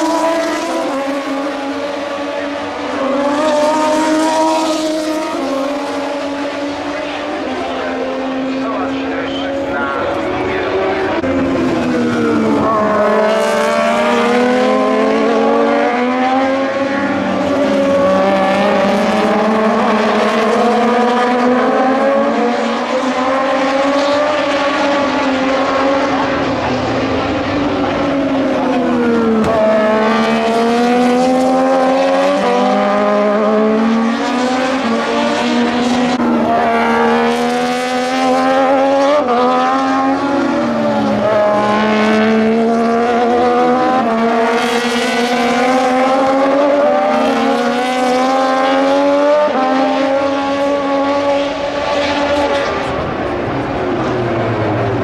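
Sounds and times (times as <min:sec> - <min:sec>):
racing motorcycle engines revving: 0:00.0 - 0:55.0.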